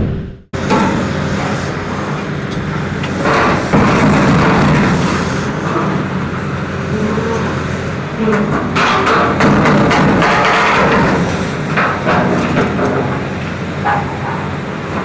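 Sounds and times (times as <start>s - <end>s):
diesel machinery running: 0.0s - 15.0s.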